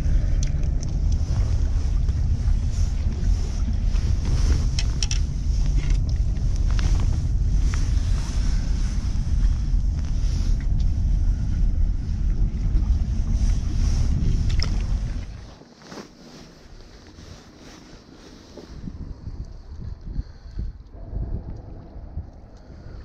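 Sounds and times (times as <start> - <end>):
wind buffeting microphone: 0.0 - 15.8, 16.4 - 23.0.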